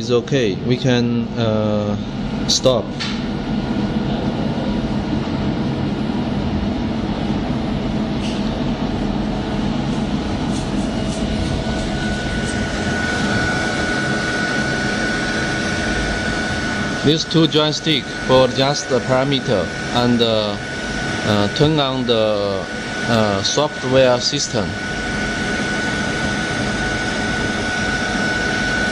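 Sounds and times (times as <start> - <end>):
high steady whine: 0.0 - 28.9
water cooler mechanical hum: 0.0 - 28.9.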